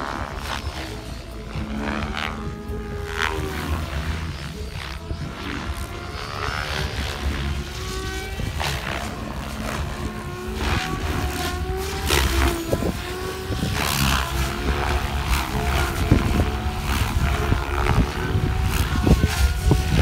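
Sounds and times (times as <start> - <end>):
electric motor whine: 0.0 - 20.0
helicopter rotor whooshing: 0.0 - 20.0.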